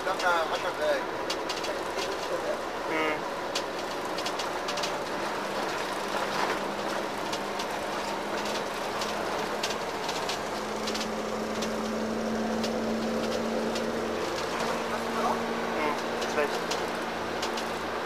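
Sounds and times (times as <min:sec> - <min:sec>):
bus engine hum: 0:00.0 - 0:18.0
road noise: 0:00.0 - 0:18.0.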